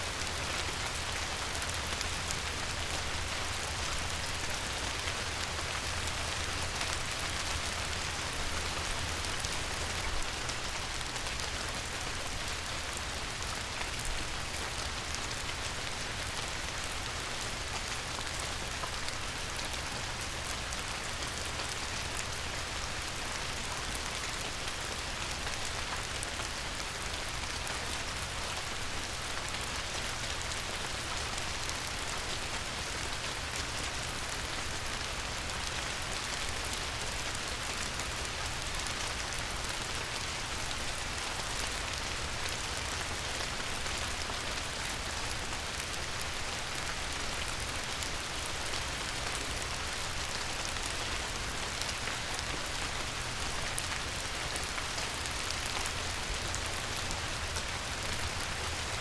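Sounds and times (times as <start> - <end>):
light rain on a river: 0.0 - 59.0.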